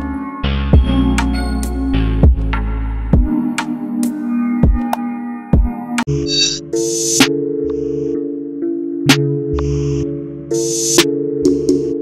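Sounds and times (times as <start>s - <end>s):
electronic music with bass and drums: 0.0s - 8.4s, 9.0s - 12.0s.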